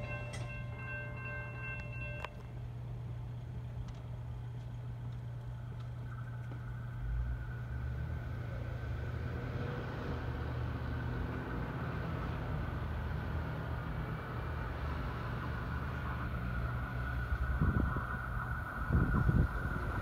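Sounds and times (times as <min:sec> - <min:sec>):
light-rail train rumble: 0:00.0 - 0:20.0.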